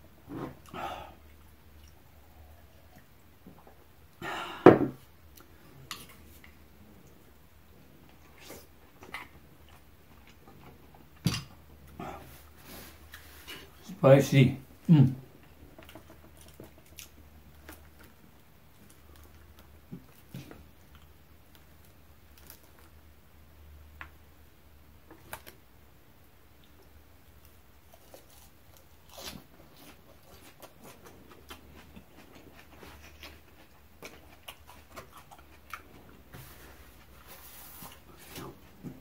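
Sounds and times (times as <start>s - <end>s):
man chewing: 0.1s - 4.4s, 5.0s - 13.8s, 15.3s - 22.9s, 26.5s - 39.0s.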